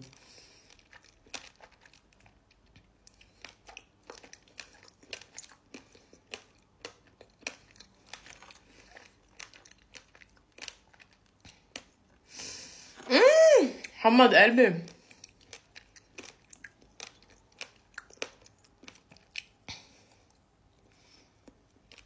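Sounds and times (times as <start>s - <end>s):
wet chewing clicks: 0.0s - 12.2s, 14.9s - 20.4s.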